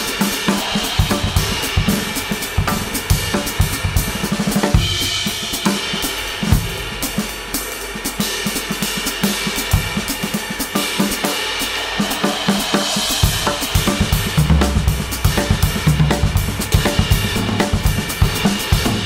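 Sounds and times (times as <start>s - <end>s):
cymbal crash: 0.0s - 19.0s
drum kit beat: 0.0s - 19.0s.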